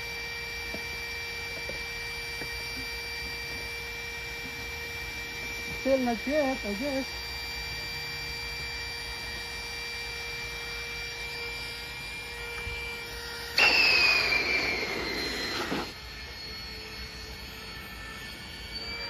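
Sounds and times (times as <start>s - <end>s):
electric air pump whining: 0.0s - 19.0s.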